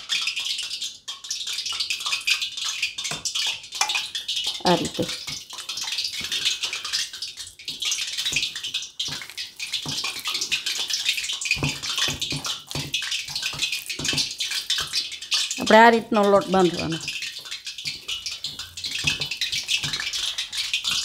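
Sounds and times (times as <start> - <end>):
hands kneading wet dough: 1.5 - 21.0.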